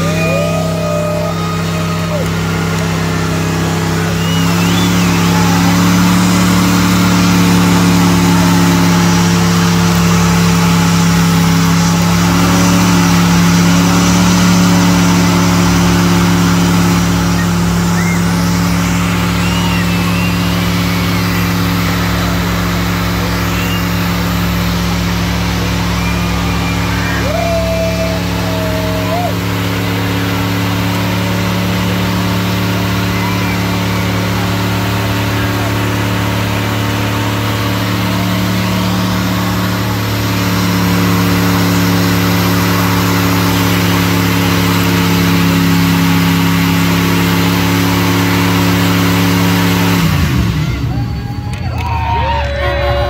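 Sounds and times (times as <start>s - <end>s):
engine at high revs: 0.0s - 53.0s
tires spinning on pavement: 0.0s - 53.0s.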